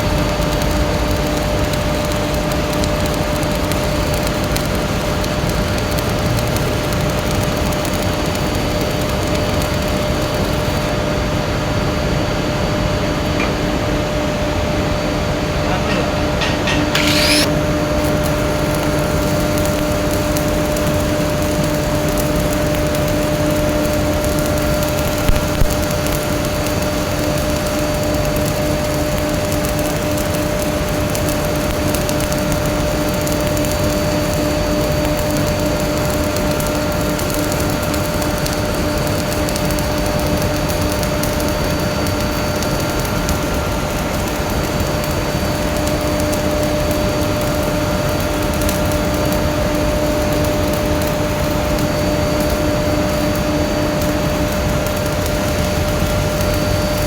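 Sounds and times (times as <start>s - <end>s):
welding arc crackling: 0.0s - 11.4s, 15.9s - 57.0s.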